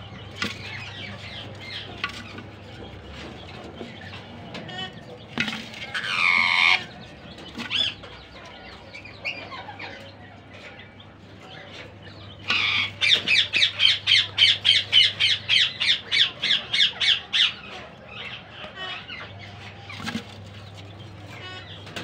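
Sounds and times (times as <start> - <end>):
parakeets squawking: 0.0 - 22.0.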